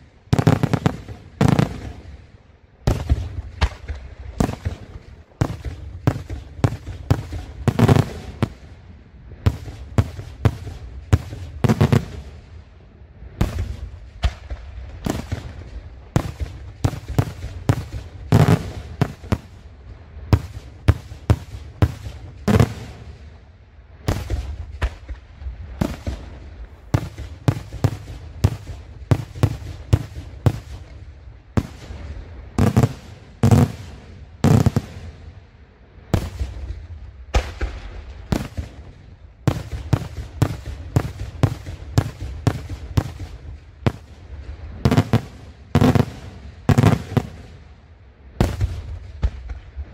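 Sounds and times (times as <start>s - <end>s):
fireworks bangs: 0.0s - 8.8s, 9.4s - 12.6s, 13.4s - 35.5s, 36.1s - 47.8s, 48.4s - 49.9s.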